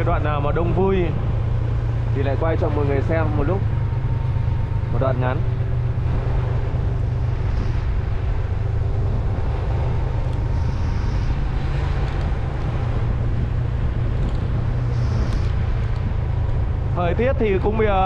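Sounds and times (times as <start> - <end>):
vehicle engine and road noise: 0.0 - 18.0
wind buffeting microphone: 0.0 - 18.0.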